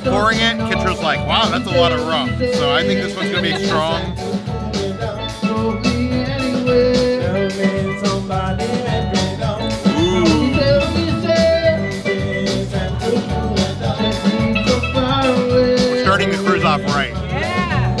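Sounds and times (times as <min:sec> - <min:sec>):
upbeat music with steady beat: 0:00.0 - 0:18.0.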